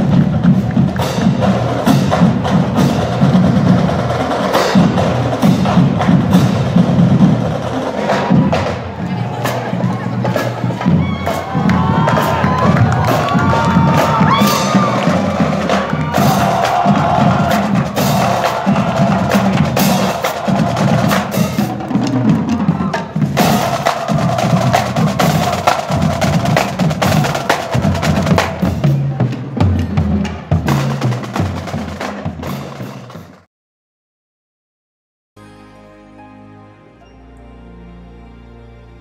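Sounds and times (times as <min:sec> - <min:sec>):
deeper drum beats: 0:00.0 - 0:33.5.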